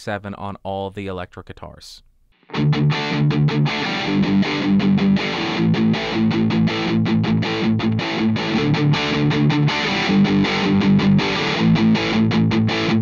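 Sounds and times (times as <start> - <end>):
electric guitar strumming chords: 2.4 - 13.0.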